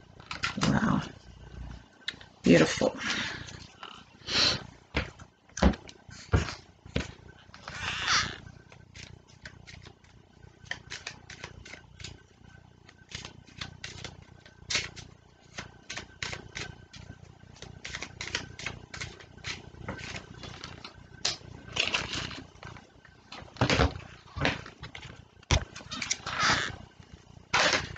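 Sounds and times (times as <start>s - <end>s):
cards being shuffled: 5.0s - 12.2s, 12.8s - 27.9s.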